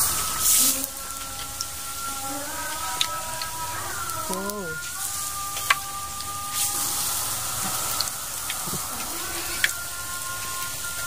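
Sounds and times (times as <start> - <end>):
batter frying in hot oil: 0.0 - 11.0.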